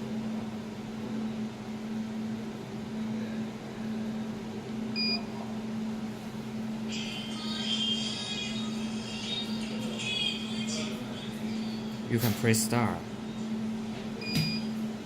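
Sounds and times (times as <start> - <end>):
machine electrical hum: 0.0 - 15.0.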